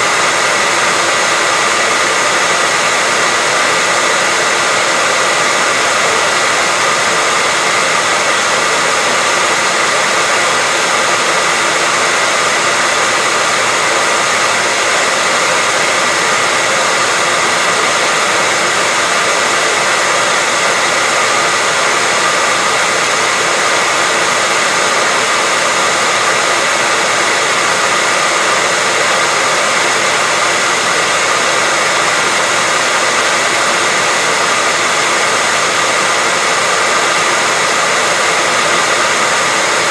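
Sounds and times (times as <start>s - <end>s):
hairdryer running: 0.0s - 39.9s.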